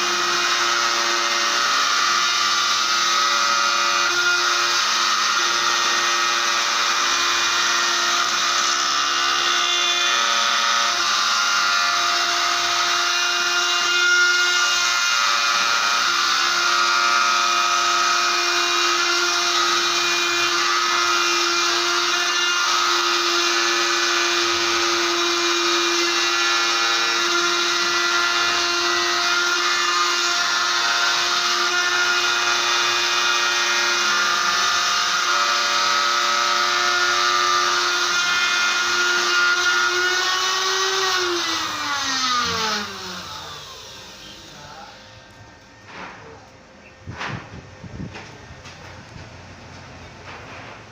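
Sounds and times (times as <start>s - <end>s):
cnc spindle whine: 0.0s - 46.6s.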